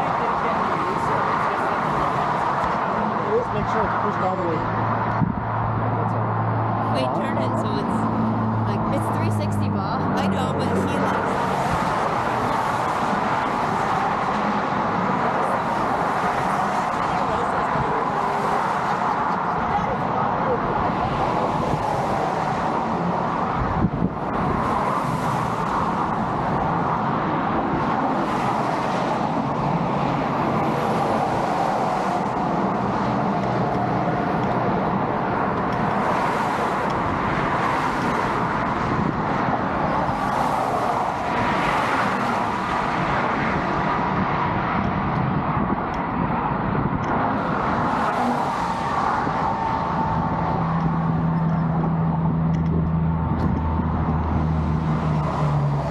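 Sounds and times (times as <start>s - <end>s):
road traffic noise: 0.0s - 55.9s
vehicles passing: 0.0s - 55.9s.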